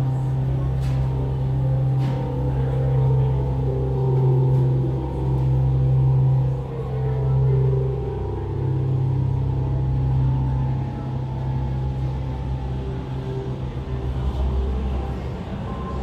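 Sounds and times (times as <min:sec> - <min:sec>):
deep low drone: 0:00.0 - 0:16.0.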